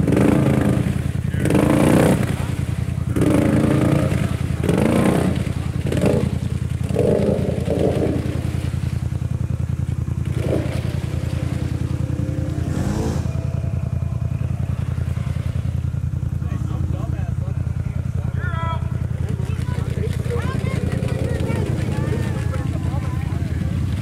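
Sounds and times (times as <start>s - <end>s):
atv engine running steadily: 0.0s - 24.0s.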